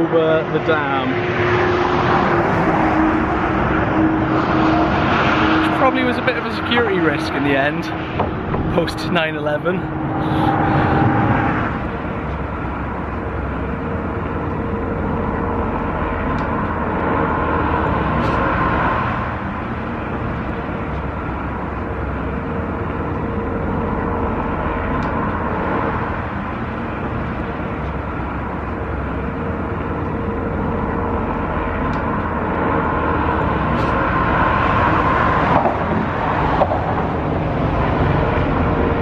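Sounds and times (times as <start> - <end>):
traffic rumble and tyre hum: 0.0 - 39.0.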